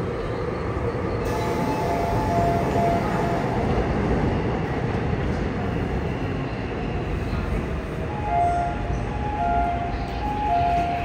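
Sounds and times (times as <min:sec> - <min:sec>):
stopped train hum: 0:00.0 - 0:11.0
train doors closing: 0:00.2 - 0:11.0.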